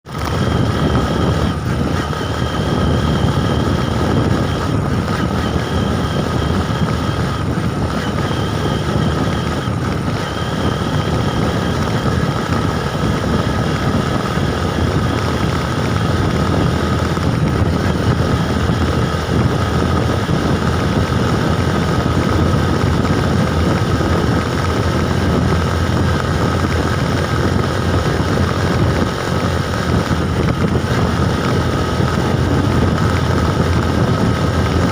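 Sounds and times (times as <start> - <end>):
bike ride rumble: 0.1 - 34.9
faint steady whine: 0.1 - 34.9
wind buffeting microphone: 0.1 - 34.9.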